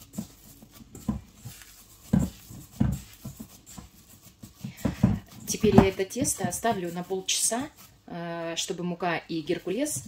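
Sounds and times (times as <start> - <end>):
hands kneading dough: 0.0 - 10.0.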